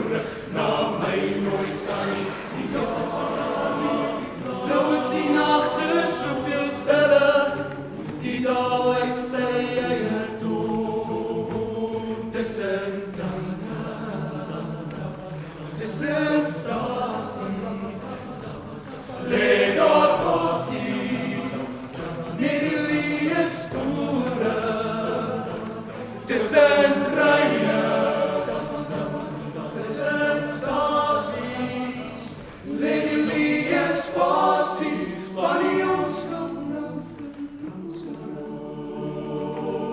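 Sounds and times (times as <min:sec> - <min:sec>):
male choir singing a cappella: 0:00.0 - 0:39.9.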